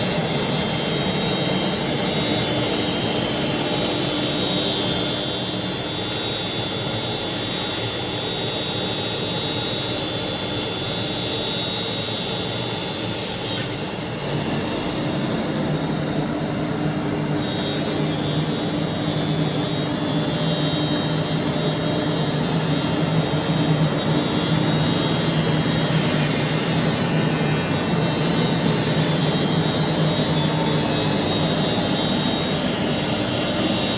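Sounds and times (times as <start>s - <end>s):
machine running with whine: 0.0s - 33.9s.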